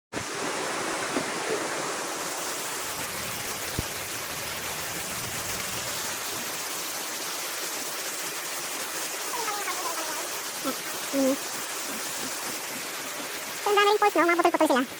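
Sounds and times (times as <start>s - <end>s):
waterfall rushing: 0.2s - 14.9s.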